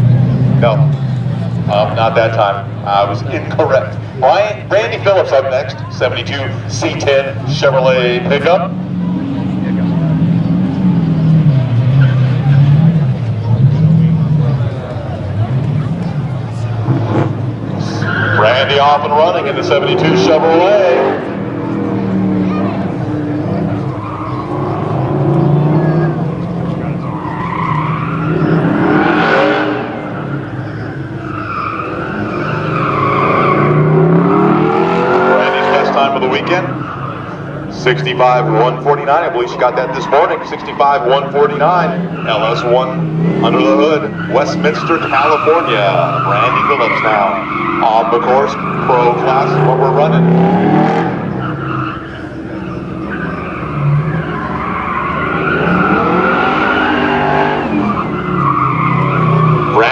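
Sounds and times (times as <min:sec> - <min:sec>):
car engine revving: 0:00.0 - 0:59.9
tire squeal: 0:00.0 - 0:59.9.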